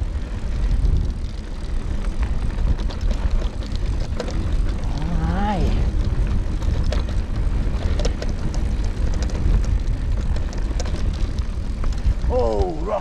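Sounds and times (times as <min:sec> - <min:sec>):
bike clicks and rattles: 0:00.0 - 0:13.0
bike tyres rolling on gravel: 0:00.0 - 0:13.0
wind buffeting microphone: 0:00.0 - 0:13.0.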